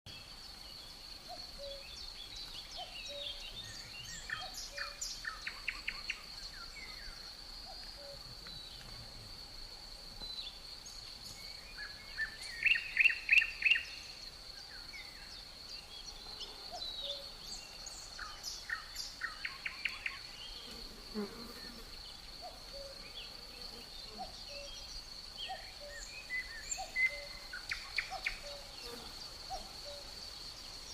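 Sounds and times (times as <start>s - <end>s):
songbirds chirping: 0.1s - 30.9s.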